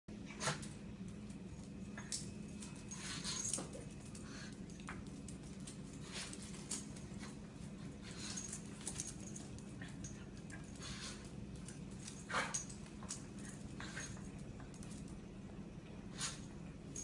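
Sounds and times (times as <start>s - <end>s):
steady low hum: 0.1s - 17.0s
paws and claws on tiles: 0.2s - 15.1s.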